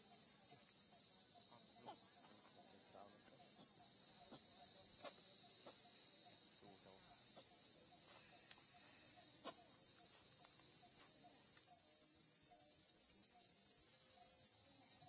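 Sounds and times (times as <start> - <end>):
insect chorus hiss: 0.0 - 15.0.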